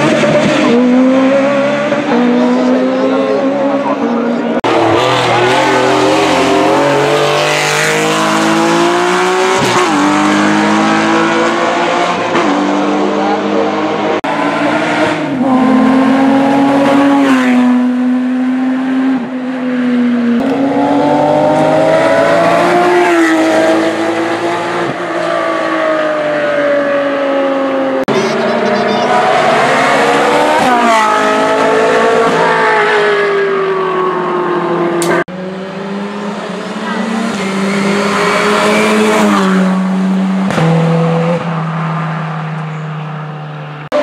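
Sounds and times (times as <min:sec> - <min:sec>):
racing car engines revving: 0:00.0 - 0:44.0.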